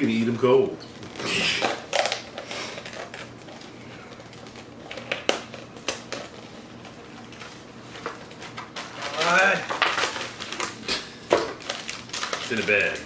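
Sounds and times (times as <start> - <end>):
snack packaging crinkling: 1.0 - 13.0.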